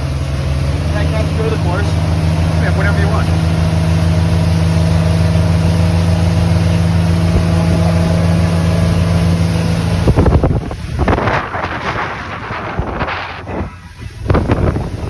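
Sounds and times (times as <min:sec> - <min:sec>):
motorboat engine humming: 0:00.0 - 0:15.0
rushing water: 0:00.0 - 0:15.0
wind buffeting microphone: 0:00.0 - 0:15.0.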